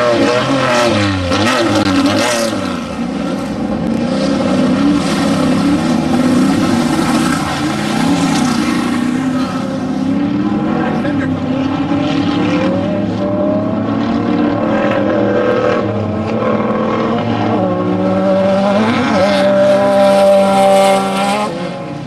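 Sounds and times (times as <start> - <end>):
engine revving at high revs: 0.0 - 22.0.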